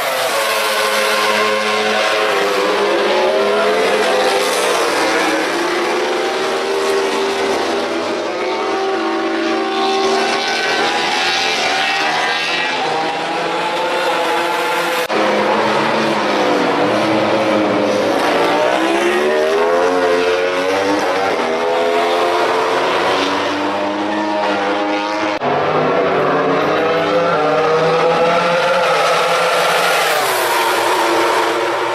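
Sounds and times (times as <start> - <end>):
racing motorcycle engines revving: 0.0 - 31.9.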